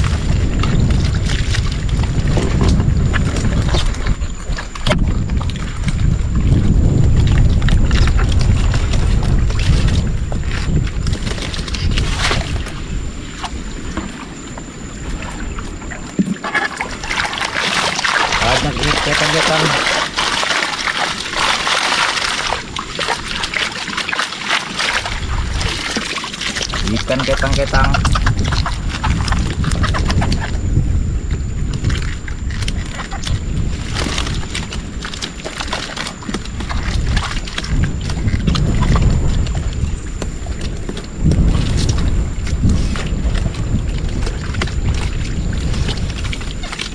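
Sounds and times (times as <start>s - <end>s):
low rumble: 0.0s - 16.1s, 16.7s - 23.8s, 24.9s - 46.9s
water splashing and churning: 0.0s - 46.9s.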